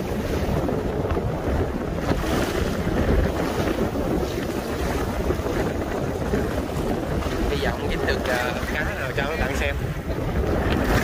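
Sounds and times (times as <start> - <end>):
waves washing along boat hull: 0.0 - 11.0
wind buffeting microphone: 0.0 - 11.0.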